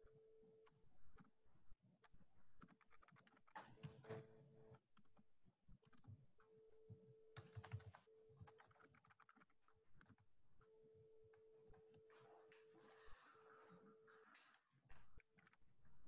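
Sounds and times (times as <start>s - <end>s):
faint keyboard typing: 2.0s - 16.0s.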